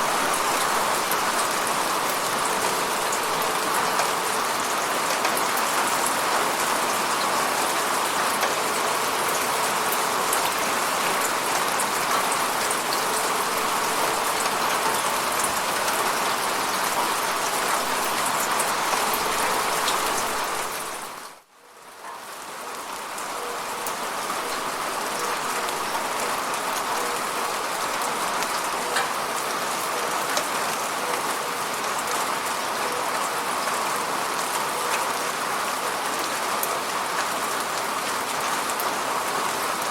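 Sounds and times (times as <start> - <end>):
rain hitting a window: 0.0 - 39.9.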